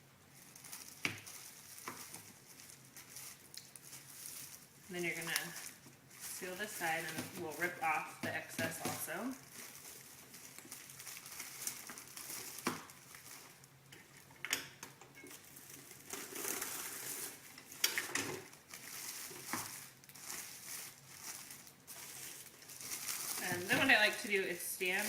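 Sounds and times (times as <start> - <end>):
plastic film crinkling: 0.2 - 14.4, 15.3 - 25.0.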